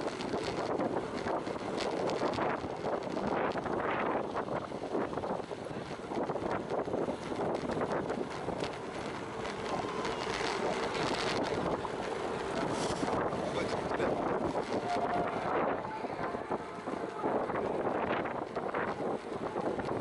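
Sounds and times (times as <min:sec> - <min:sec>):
bicycle road noise: 0:00.0 - 0:20.0
wind buffeting microphone: 0:00.0 - 0:20.0.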